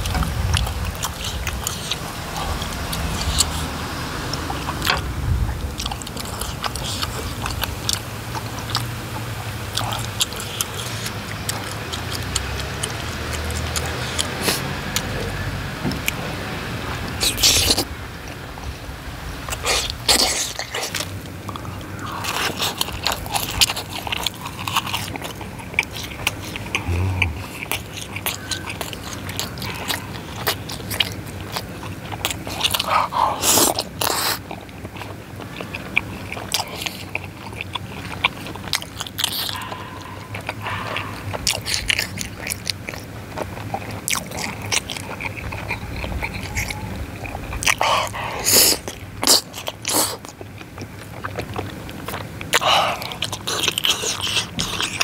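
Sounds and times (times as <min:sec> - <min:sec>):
wet mouth clicks and smacks: 0:00.0 - 0:05.0, 0:05.8 - 0:15.2, 0:19.5 - 0:55.0
close-miked chewing: 0:00.0 - 0:55.0.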